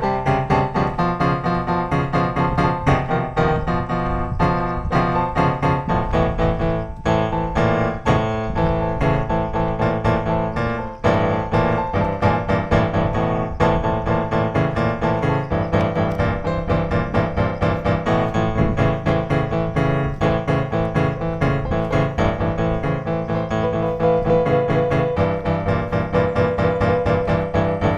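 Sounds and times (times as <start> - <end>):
piano music: 0.0 - 27.9.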